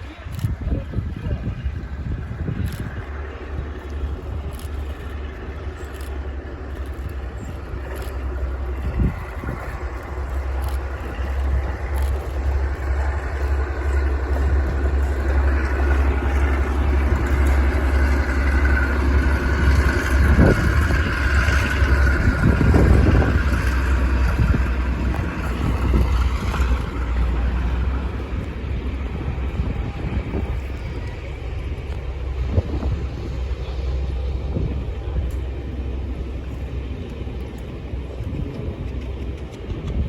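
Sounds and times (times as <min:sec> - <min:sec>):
diesel locomotive hauling train: 0:00.0 - 0:40.0
wind rumble on microphone: 0:00.0 - 0:40.0.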